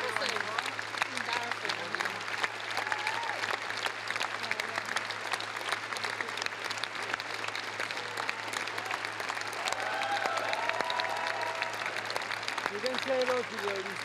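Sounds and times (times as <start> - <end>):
audience applauding: 0.0 - 14.0
faint voices and cheers: 0.0 - 14.0.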